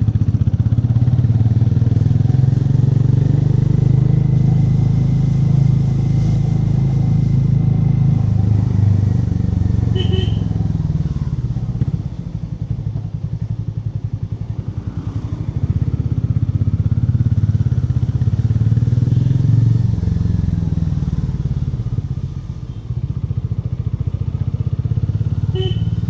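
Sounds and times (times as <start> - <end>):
motorcycle engine exhaust note: 0.2 - 26.0.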